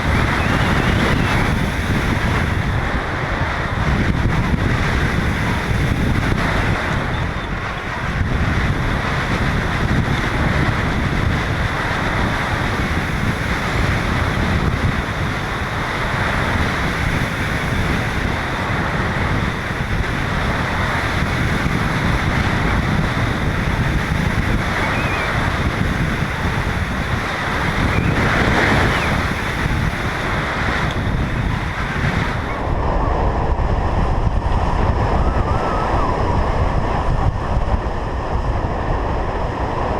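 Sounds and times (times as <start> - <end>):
strong wind on microphone: 0.0 - 39.9.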